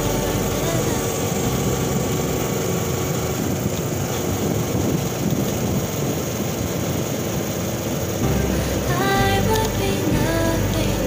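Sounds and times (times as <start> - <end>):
road and air noise rushing: 0.0 - 10.6
motorcycle engine running: 0.0 - 11.0.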